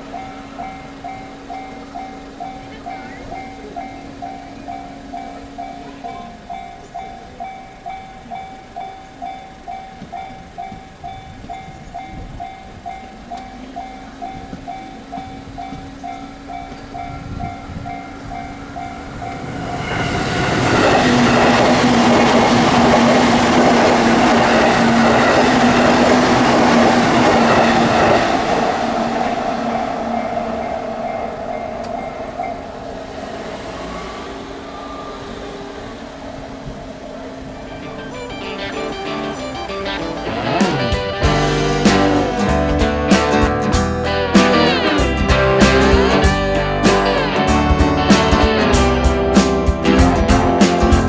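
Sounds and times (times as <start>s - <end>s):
level crossing bell ringing: 0.0s - 36.0s, 37.0s - 43.1s
train passing: 0.0s - 51.0s.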